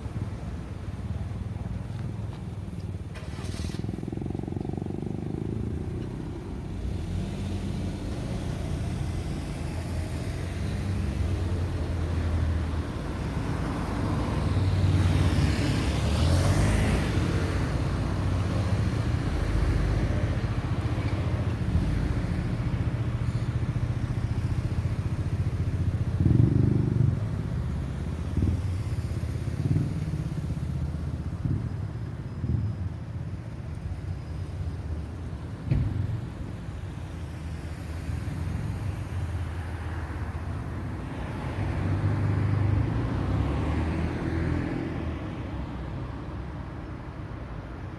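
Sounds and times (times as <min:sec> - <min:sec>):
vehicle engines humming: 0:00.0 - 0:47.9.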